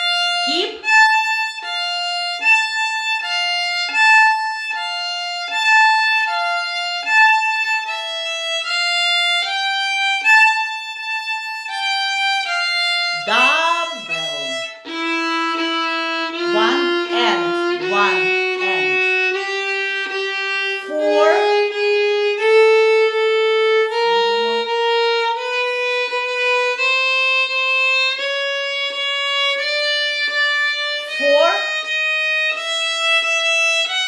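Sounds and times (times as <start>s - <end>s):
solo violin short bowed notes: 0.0s - 34.0s.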